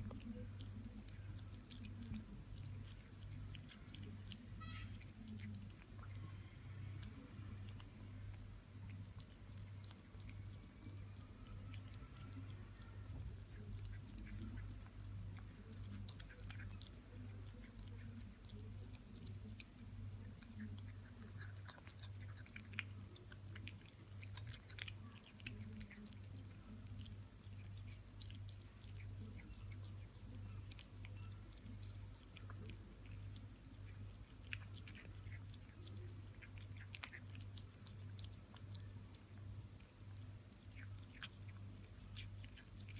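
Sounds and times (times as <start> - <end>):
kitten chewing: 0.0 - 42.9
low steady hum: 0.0 - 42.9.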